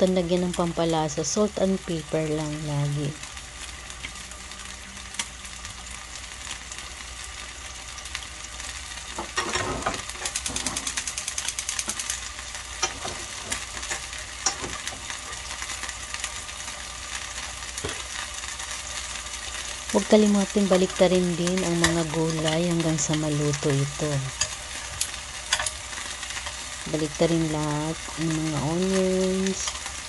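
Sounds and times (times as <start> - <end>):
crackling and popping: 0.0 - 30.0
steak sizzling in a grill pan: 0.0 - 30.0.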